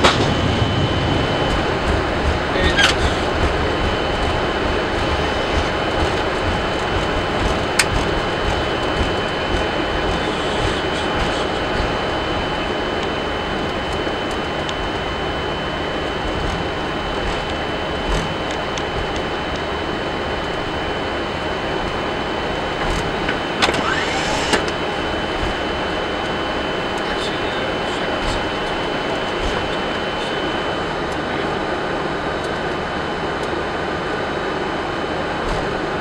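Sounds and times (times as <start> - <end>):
engine and air rush: 0.0 - 32.9.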